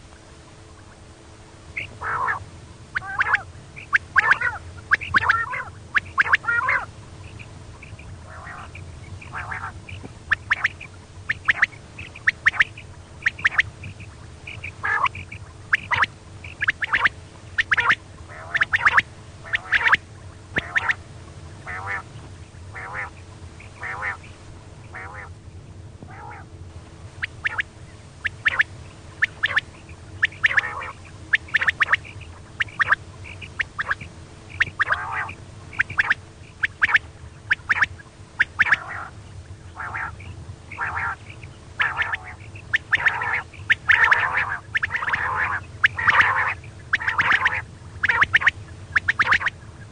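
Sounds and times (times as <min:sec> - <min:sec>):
steady low hum: 0:00.0 - 0:49.9
quail rasping call: 0:01.7 - 0:25.4, 0:26.0 - 0:26.5, 0:27.2 - 0:49.9.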